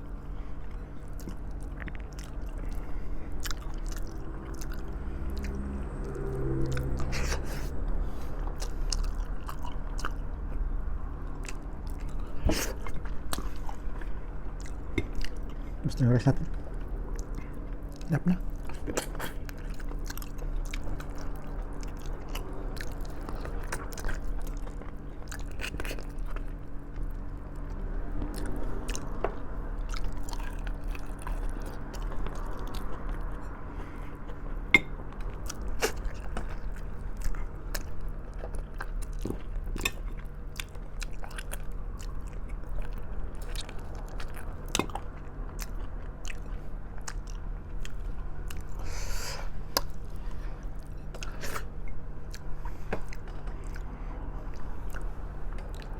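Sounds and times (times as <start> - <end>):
steady low hum: 0.0 - 55.9
person chewing: 0.3 - 10.6, 11.2 - 55.9.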